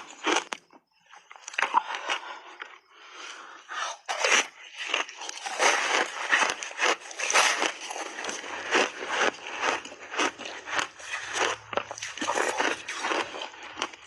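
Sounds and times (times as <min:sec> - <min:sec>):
ice being chewed crunching: 0:00.0 - 0:14.0.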